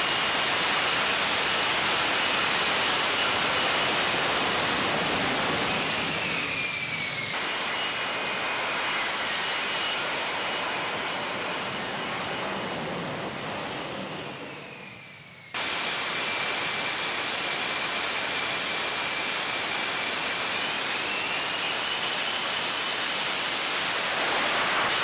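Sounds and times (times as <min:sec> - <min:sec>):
high jet whine: 0:00.0 - 0:25.0
jet engine roaring: 0:00.0 - 0:25.0.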